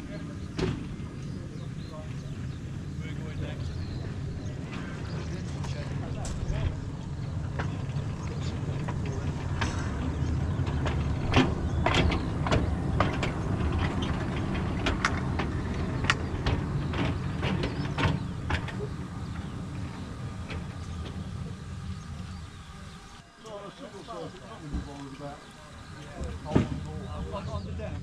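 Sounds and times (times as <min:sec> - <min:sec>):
train clicks and knocks: 0:00.0 - 0:23.2
train rumbling: 0:00.0 - 0:28.0.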